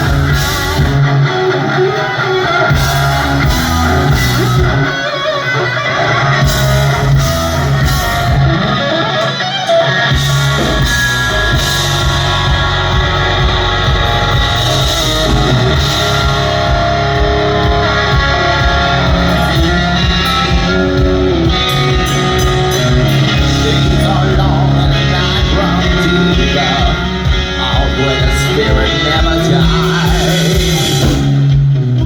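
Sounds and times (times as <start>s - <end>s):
electric guitar: 0.0s - 32.0s
hard rock band playing: 0.0s - 32.0s.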